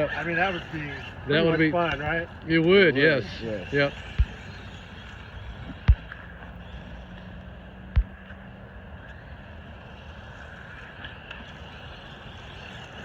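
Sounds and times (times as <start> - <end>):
rc car motor whine: 0.0 - 13.0
steady rushing noise: 0.0 - 13.0.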